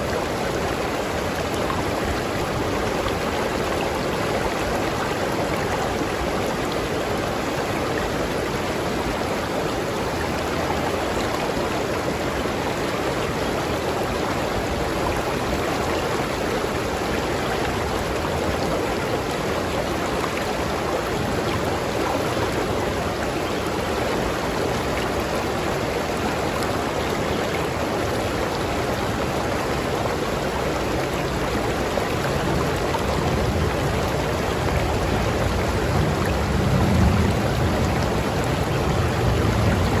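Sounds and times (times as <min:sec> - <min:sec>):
river stream flowing: 0:00.0 - 0:40.0.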